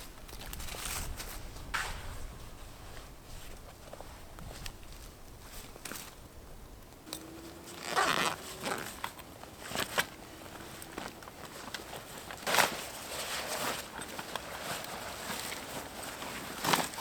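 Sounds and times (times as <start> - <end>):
dry twigs crackling and rustling: 0.0 - 1.8, 3.1 - 17.0.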